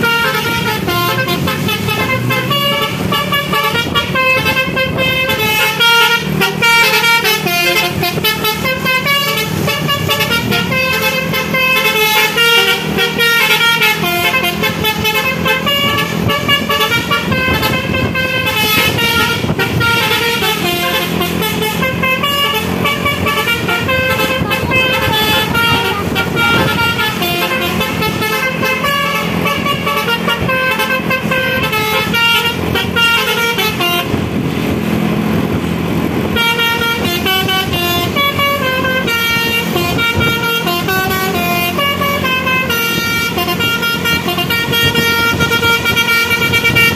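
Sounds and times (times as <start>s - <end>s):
melodic air horn playing a tune: 0.0s - 34.8s, 36.0s - 46.9s.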